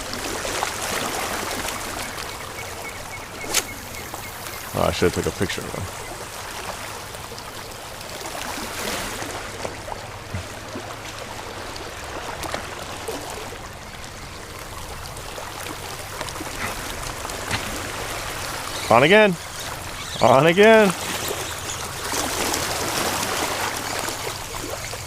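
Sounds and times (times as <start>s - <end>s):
water washing along shoreline: 0.0s - 25.0s.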